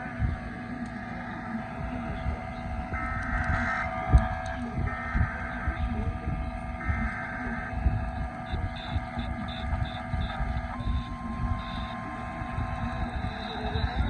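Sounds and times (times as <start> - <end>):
steady hum of tones: 0.0 - 14.0.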